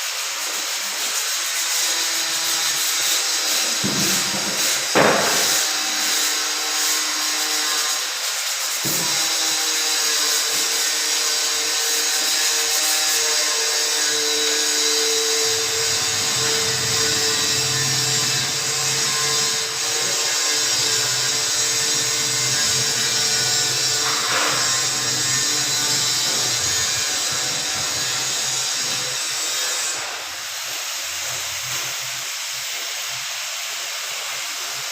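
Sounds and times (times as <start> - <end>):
power tool hissing and whining: 0.0 - 34.9.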